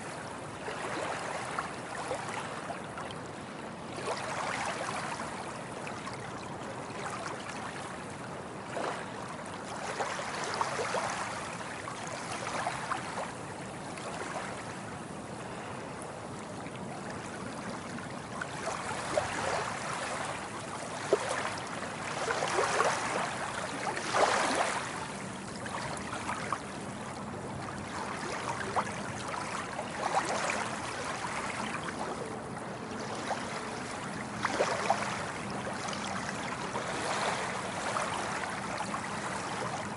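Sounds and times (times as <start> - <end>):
small waves lapping and splashing: 0.0 - 39.9.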